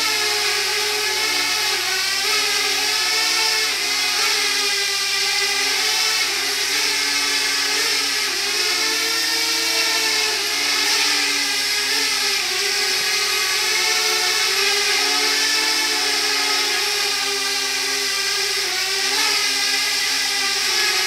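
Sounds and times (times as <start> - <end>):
quadcopter propellers whirring: 0.0 - 21.0.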